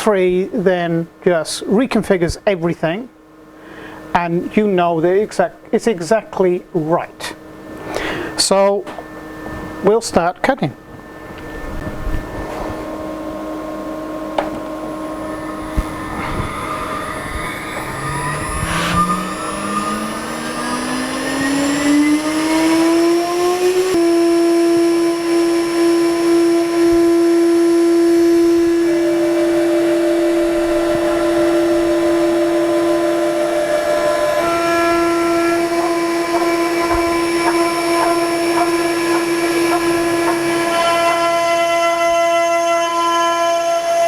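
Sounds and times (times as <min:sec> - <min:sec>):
router spindle whine: 0:07.3 - 0:44.0.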